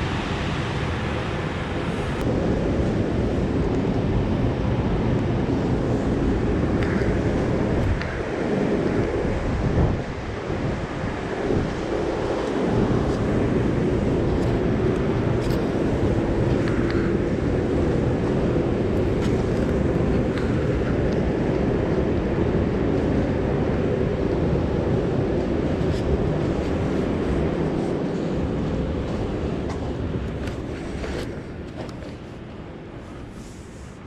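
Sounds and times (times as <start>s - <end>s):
low rumble with hum: 0.0s - 34.0s.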